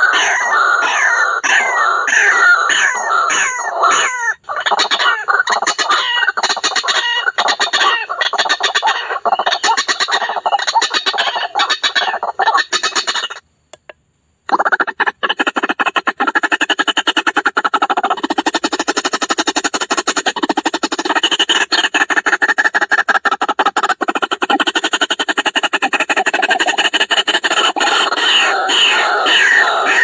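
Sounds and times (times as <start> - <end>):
bird calling harsh stutter: 0.0 - 30.0.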